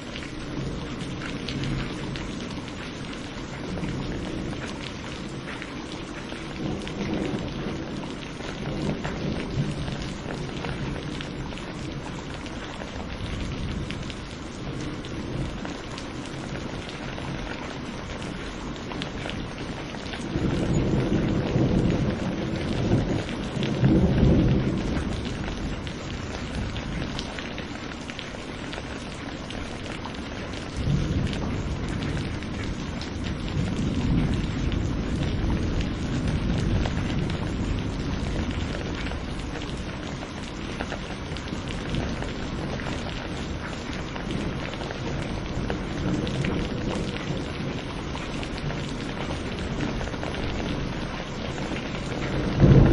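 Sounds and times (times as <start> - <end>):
steady rain: 0.0 - 52.9
thunder rumbling: 0.0 - 52.9.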